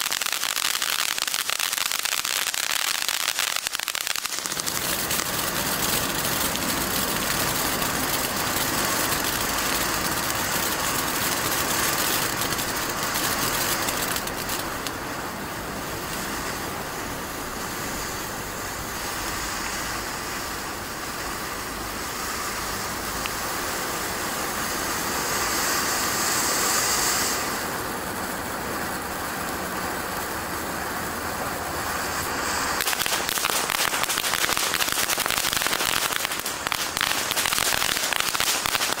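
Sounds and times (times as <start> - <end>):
firework fountain hissing and crackling: 0.0 - 39.0.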